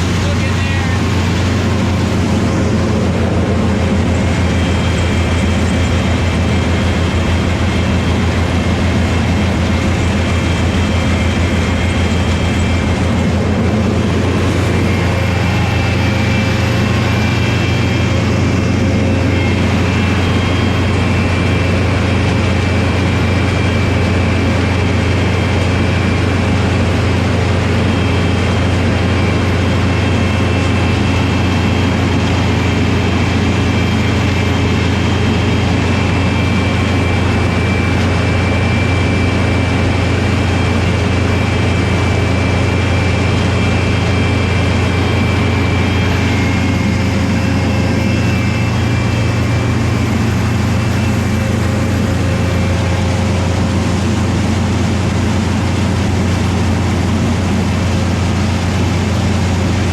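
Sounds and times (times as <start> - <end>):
faint high whines: 0.0 - 23.0, 27.2 - 59.9
harvester low drone: 0.0 - 59.9.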